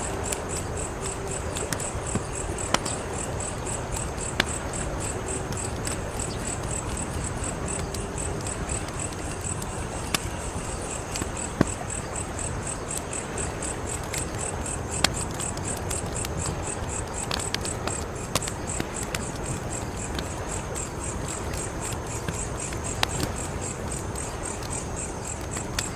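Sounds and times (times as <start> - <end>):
cricket chirping: 0.0 - 25.9
wood fire crackling: 0.0 - 25.9.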